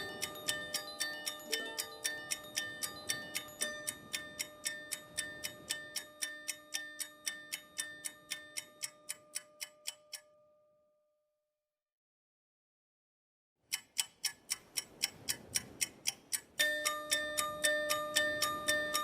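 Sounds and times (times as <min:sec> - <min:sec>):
clock-like ticking: 0:00.0 - 0:10.4, 0:13.7 - 0:19.0.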